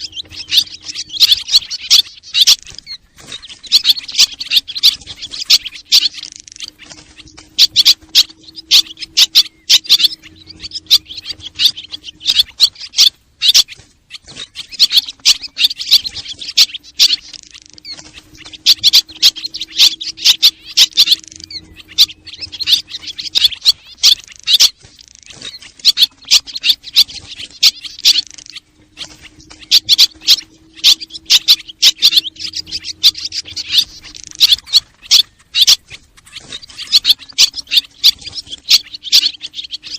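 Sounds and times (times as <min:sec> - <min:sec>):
faint low hum: 0:00.0 - 0:39.9
swallow chirps and twitters: 0:00.0 - 0:39.9.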